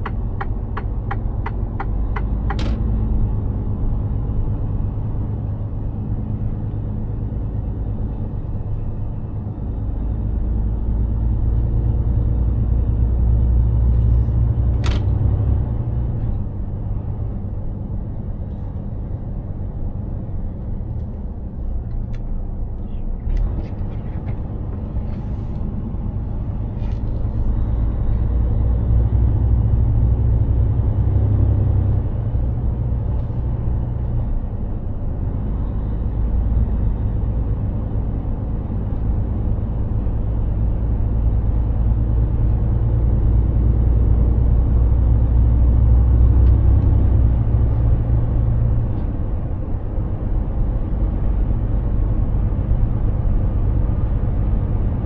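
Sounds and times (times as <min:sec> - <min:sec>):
truck diesel engine drone: 0:00.0 - 0:55.0.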